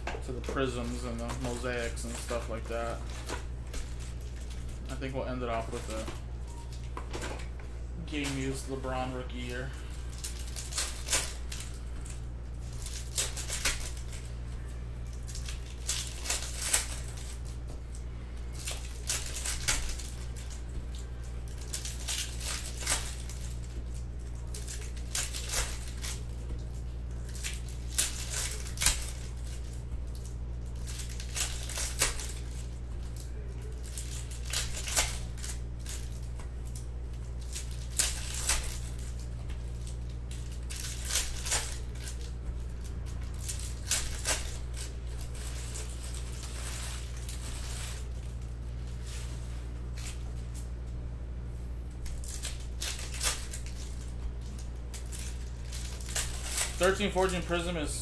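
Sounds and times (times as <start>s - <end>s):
crinkling snaps: 0.0s - 51.0s, 51.9s - 57.9s
steady low hum: 0.0s - 58.0s
card packs being torn open: 0.2s - 49.3s, 52.0s - 58.0s.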